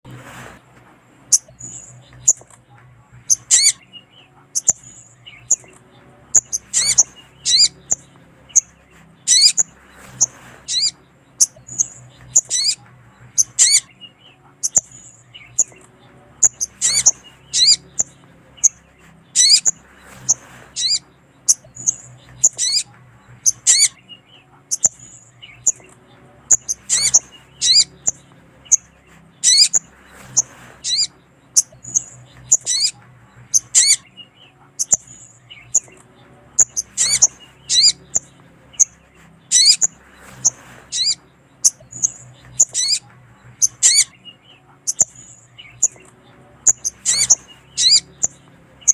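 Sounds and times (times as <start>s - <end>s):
bird chirping high and sharp: 1.3s - 2.5s, 3.2s - 36.0s, 36.6s - 48.9s.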